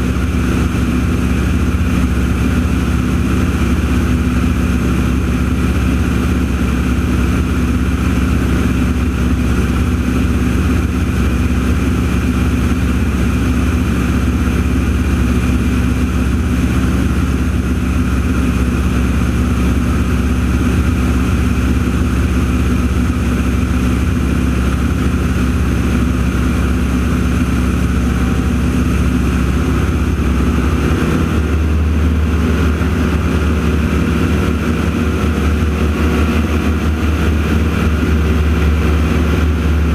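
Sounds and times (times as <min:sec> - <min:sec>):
propeller plane engines droning: 0:00.0 - 0:39.9.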